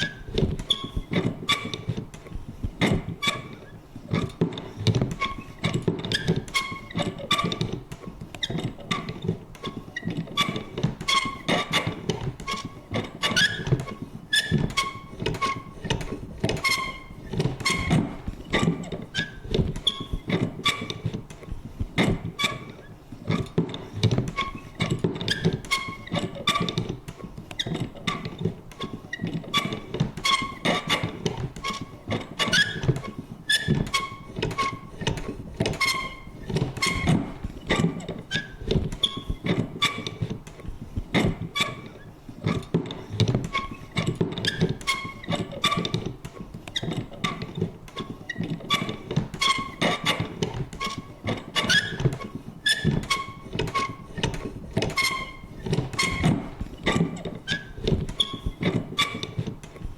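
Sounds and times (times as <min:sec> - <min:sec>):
paper punch clicking and squeaking: 0:00.0 - 0:59.9.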